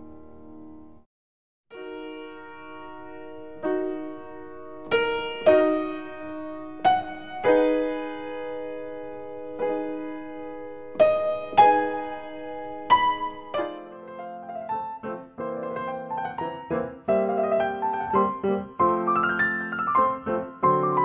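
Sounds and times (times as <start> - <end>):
gentle piano music: 0.0 - 1.0, 1.8 - 21.0.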